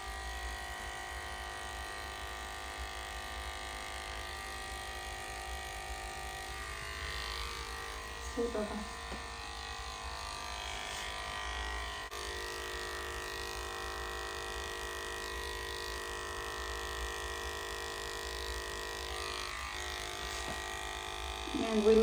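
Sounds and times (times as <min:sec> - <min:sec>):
electric clippers motor hum: 0:00.0 - 0:22.0.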